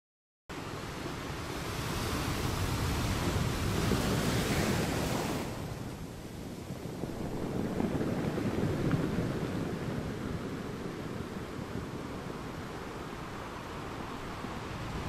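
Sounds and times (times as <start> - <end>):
sea surf washing against rocks: 0.6 - 15.0.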